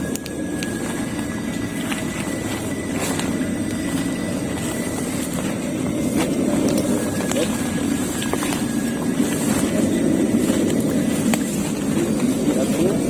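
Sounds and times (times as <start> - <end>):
high whine: 0.0 - 13.0
machinery drone: 0.0 - 13.0.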